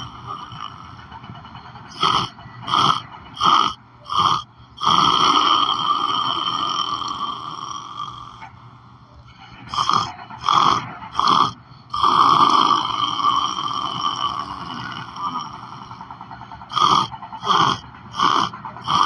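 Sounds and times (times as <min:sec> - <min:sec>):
person snoring loudly: 0:00.0 - 0:01.2, 0:01.9 - 0:08.6, 0:09.4 - 0:19.0.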